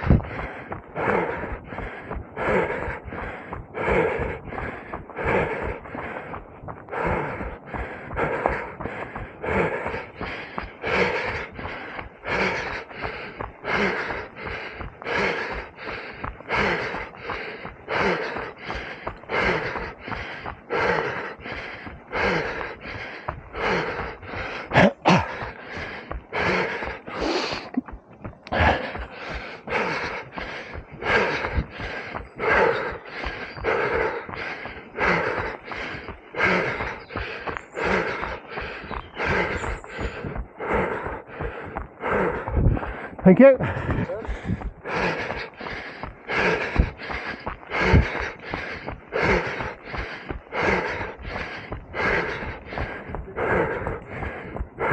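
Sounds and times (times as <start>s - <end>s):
runner breathing hard: 0.0s - 54.9s.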